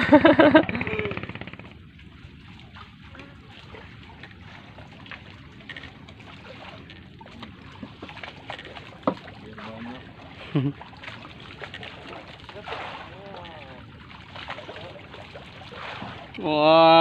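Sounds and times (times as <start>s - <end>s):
boat engine running: 0.0s - 17.0s
water lapping: 0.0s - 17.0s.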